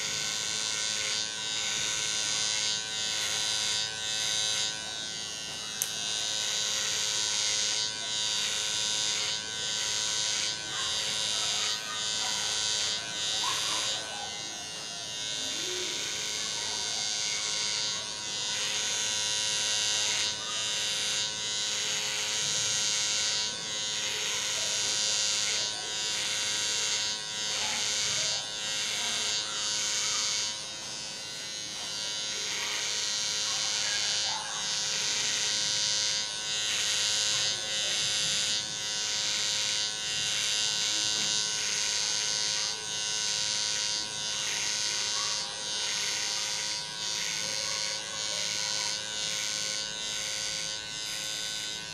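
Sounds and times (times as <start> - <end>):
electric hair trimmer buzzing: 0.0 - 51.9.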